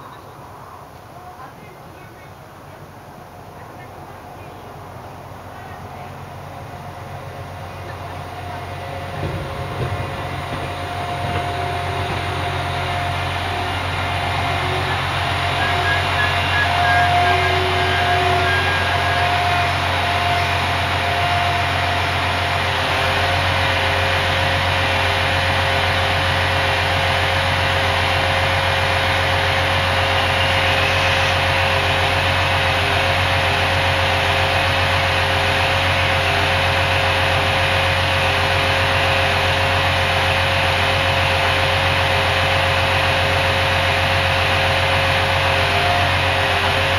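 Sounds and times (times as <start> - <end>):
train diesel engine running: 0.0 - 46.9.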